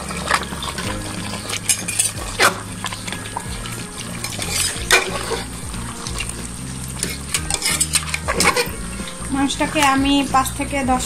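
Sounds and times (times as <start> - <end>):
metal spatula scraping pot: 0.0 - 10.6
meat frying in sauce: 0.0 - 11.0.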